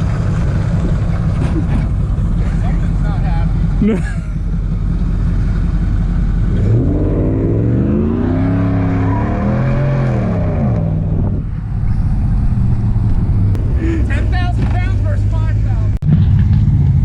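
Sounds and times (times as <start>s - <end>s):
low engine rumble: 0.0s - 17.0s
vehicle engine revving: 0.0s - 17.0s.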